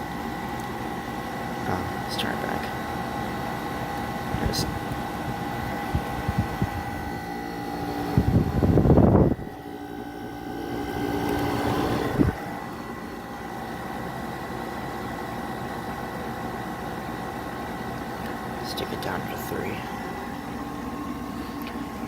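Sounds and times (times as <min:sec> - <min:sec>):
window air conditioner humming: 0:00.0 - 0:22.0.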